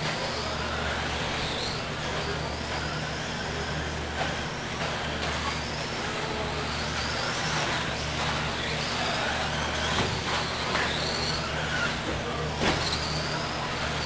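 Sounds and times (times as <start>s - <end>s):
electric motor whine: 0.0s - 14.0s
room hum and hiss: 0.0s - 14.0s.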